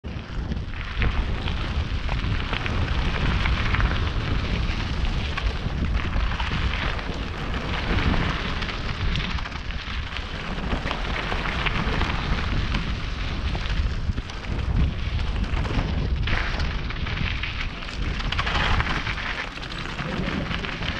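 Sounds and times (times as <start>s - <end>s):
wind noise on microphone: 0.0s - 20.9s
bike tyres rattling over stones: 0.1s - 20.9s.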